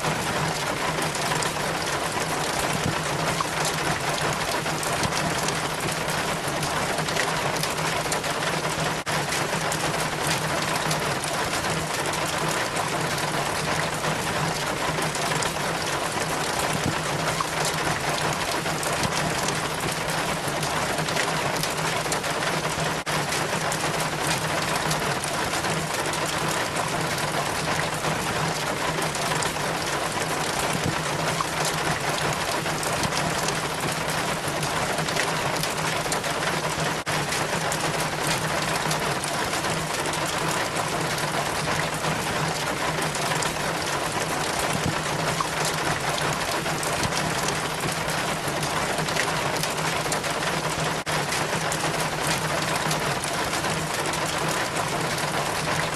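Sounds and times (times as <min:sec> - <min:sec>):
rain falling: 0:00.0 - 0:55.9
water splashing down rain chain: 0:00.0 - 0:55.9.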